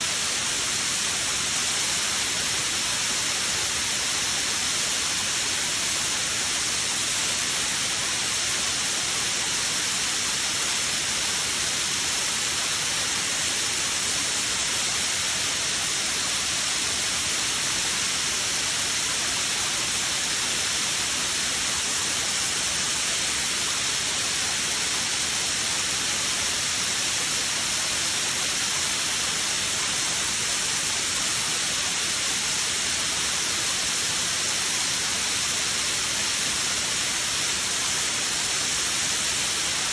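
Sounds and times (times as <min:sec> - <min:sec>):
spray torch hissing: 0:00.0 - 0:39.9.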